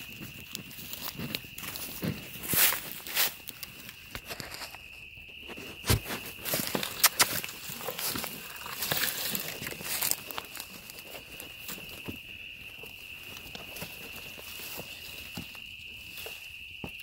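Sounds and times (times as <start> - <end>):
footsteps crunching dry leaves: 0.0 - 17.0
high insect drone: 0.0 - 17.0
twigs crackling: 0.0 - 17.0.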